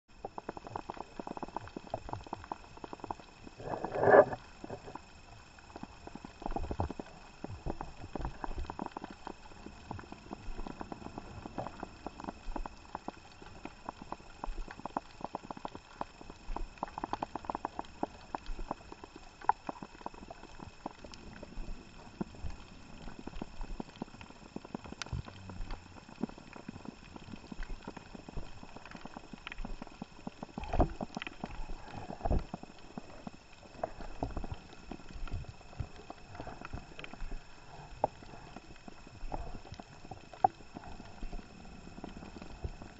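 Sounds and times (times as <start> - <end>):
faint steady hiss: 0.1 - 42.9.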